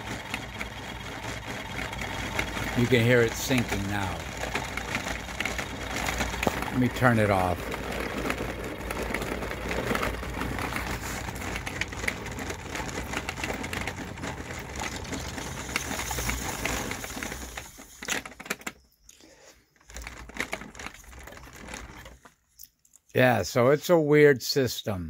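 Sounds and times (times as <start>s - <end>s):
motor rotor rapid clicking: 0.0s - 18.8s, 19.8s - 22.3s.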